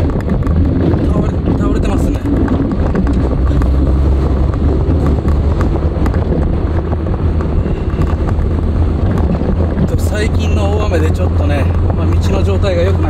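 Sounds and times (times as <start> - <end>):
car engine droning: 0.0 - 13.0
road noise: 0.0 - 13.0
wind buffeting microphone: 0.0 - 13.0.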